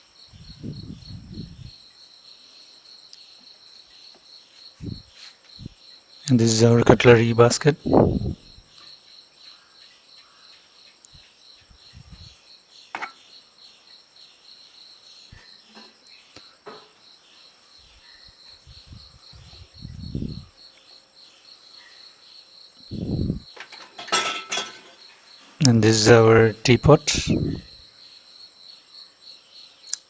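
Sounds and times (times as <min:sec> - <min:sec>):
insects chirping: 0:00.0 - 0:30.0.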